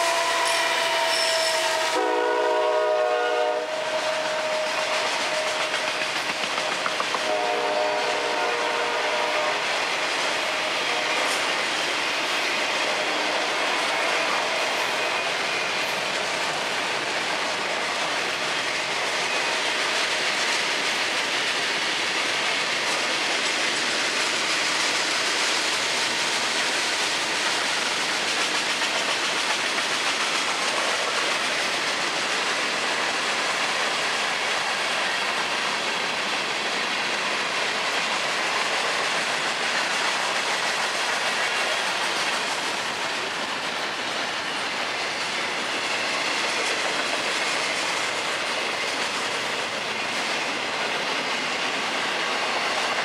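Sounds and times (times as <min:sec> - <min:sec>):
freight train wheels on rail: 0:00.0 - 0:53.0.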